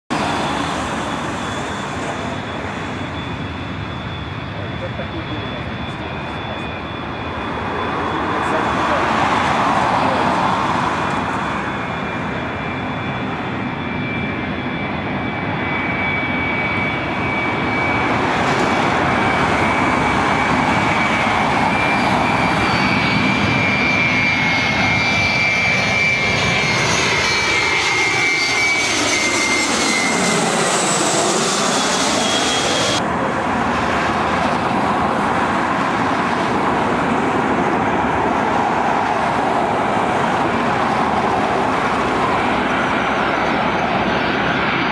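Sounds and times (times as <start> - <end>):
approaching jet airliner: 0.1 - 44.9
jet airliner passing overhead: 0.1 - 44.9.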